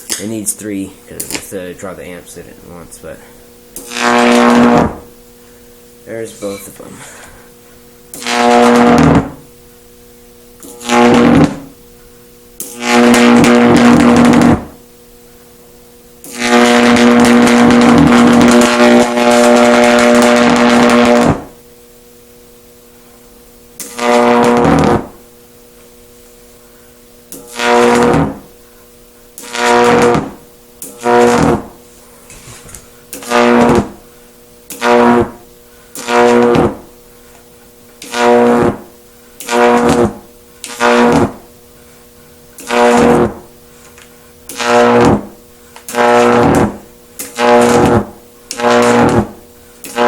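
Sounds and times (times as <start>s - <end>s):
buzzing high-voltage arcs: 0.0s - 50.0s.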